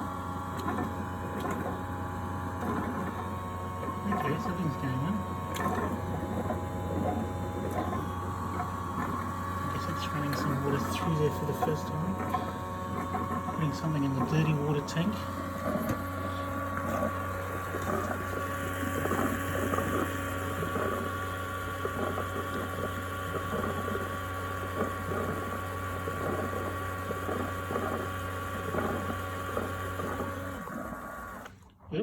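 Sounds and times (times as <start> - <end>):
water gurgling: 0.0 - 31.2
pump humming with faint whine: 0.0 - 32.0.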